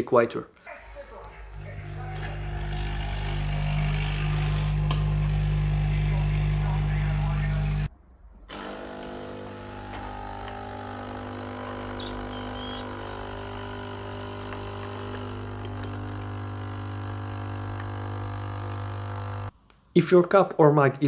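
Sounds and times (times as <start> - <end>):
coffee machine pump humming: 1.0 - 7.9, 8.5 - 19.5.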